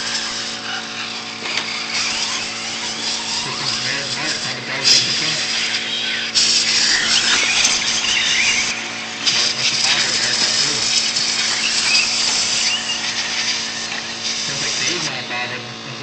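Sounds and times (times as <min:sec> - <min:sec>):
radio-controlled car motors whining: 0:00.0 - 0:16.0.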